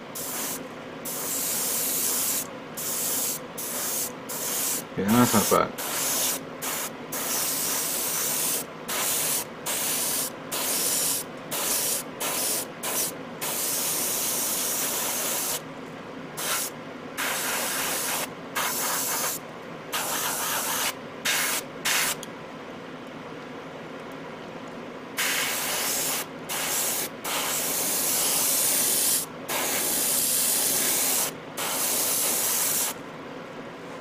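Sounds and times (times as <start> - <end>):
airbrush spraying: 0.2 - 15.6, 16.4 - 22.2, 25.2 - 33.0.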